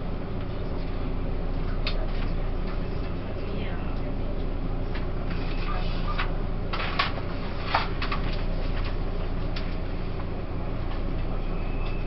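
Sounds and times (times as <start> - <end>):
train coach interior rumble: 0.0 - 12.0.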